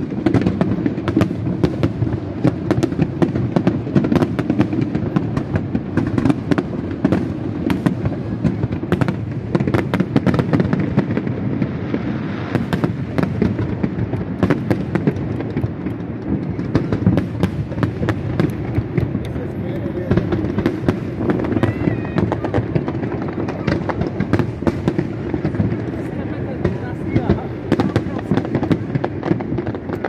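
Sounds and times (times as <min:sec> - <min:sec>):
fireworks bangs and crackles: 0:00.0 - 0:30.0
fireworks hissing: 0:00.0 - 0:30.0.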